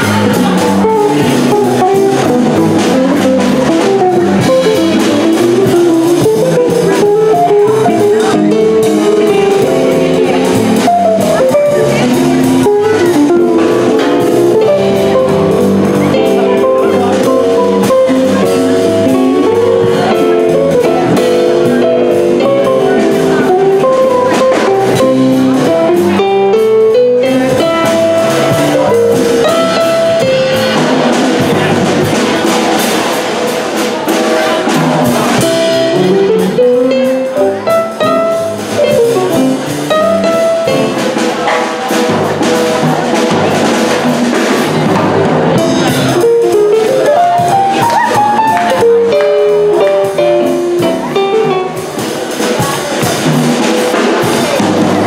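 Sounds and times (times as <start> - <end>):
jazz combo playing: 0.0 - 55.0.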